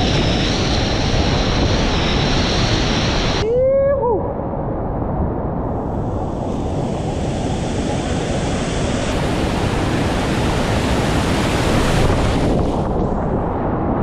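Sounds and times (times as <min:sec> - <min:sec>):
whitewater roaring: 0:00.0 - 0:14.0.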